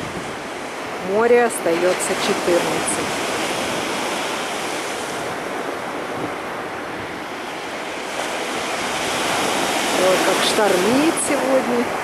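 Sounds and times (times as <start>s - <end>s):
waves breaking on shore: 0.0s - 12.0s
wind on microphone: 0.0s - 12.0s.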